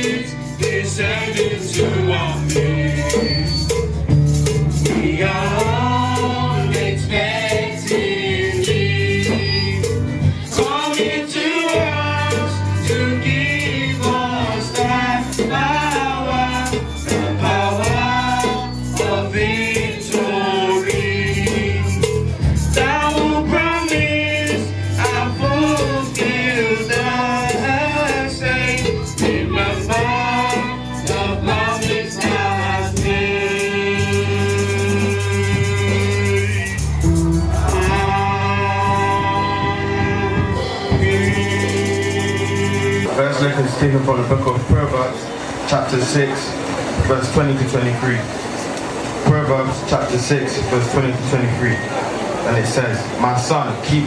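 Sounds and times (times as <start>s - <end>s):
bass accompaniment: 0.0s - 54.0s
gospel choir singing: 0.0s - 54.0s
percussion: 0.0s - 54.0s.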